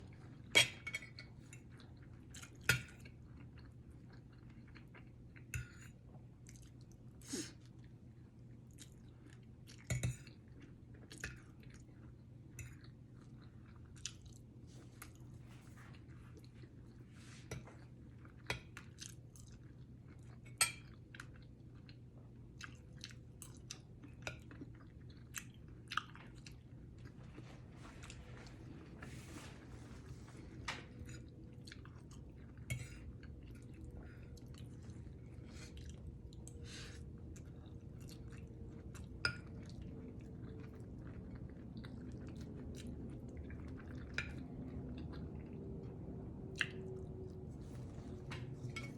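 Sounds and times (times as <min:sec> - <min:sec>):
faint low hum: 0:00.0 - 0:48.9
person chewing food: 0:00.0 - 0:48.9.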